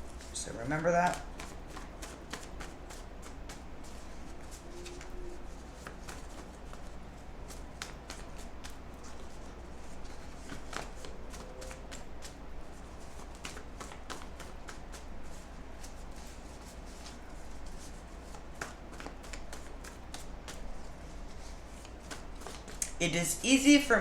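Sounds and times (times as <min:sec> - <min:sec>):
faint low hum: 0:00.0 - 0:24.0
cards being shuffled: 0:00.1 - 0:23.4.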